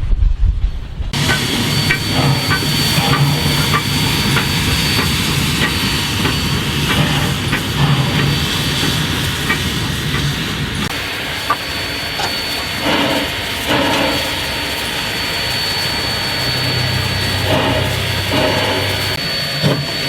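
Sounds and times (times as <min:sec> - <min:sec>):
train rumbling past: 0:00.0 - 0:20.0
steam locomotive hissing: 0:01.1 - 0:20.0
thin high whine: 0:01.1 - 0:20.0.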